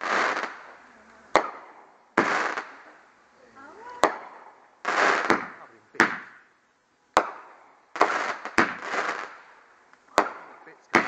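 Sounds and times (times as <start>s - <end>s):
fireworks bangs: 0.0s - 3.1s, 3.7s - 6.5s, 7.1s - 11.0s
hissing rush of fireworks: 0.0s - 6.6s, 7.2s - 11.0s.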